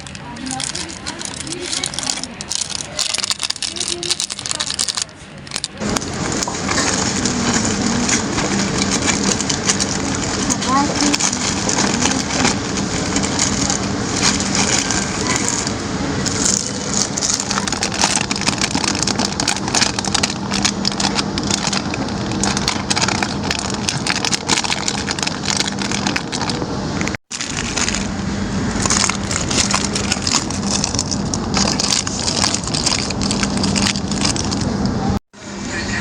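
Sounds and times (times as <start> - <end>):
packaging crinkling and rustling: 0.0 - 34.9
steady hum: 0.0 - 36.0.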